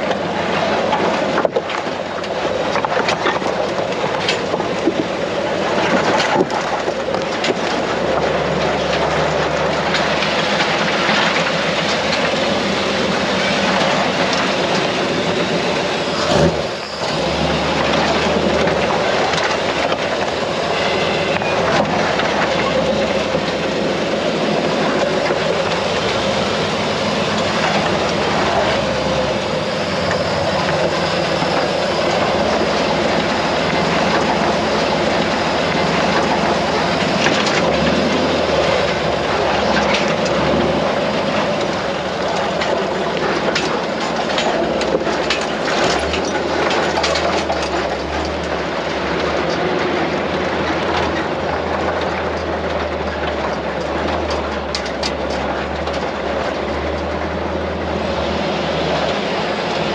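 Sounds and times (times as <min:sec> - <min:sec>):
rattles and knocks from truck: 0:00.0 - 0:59.9
truck engine drone: 0:00.0 - 0:59.9.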